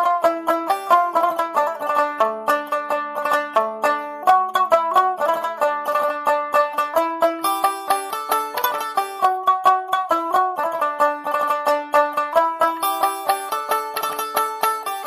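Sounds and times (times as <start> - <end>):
plucked banjo tune: 0.0 - 15.0.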